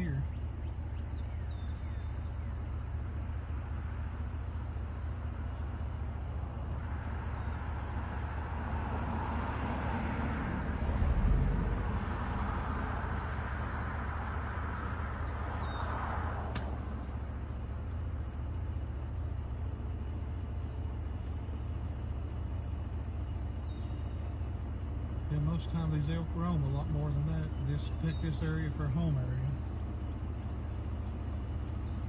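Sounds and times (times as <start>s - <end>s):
bird chirp: 0.0s - 9.4s, 14.5s - 16.0s, 16.8s - 32.0s
low rumble: 0.0s - 32.0s
passing vehicle road noise: 0.0s - 32.0s.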